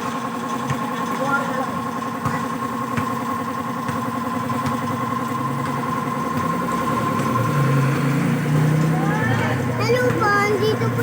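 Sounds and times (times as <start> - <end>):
motorcycle engine idling: 0.0 - 7.8, 8.6 - 11.0.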